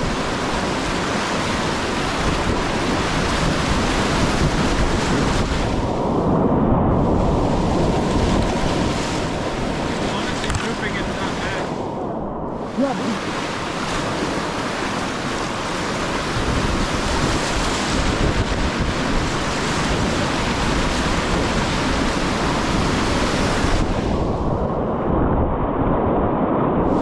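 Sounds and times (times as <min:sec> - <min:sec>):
whitewater rushing: 0:00.0 - 0:06.1, 0:07.0 - 0:24.3
wind on microphone: 0:00.0 - 0:27.0.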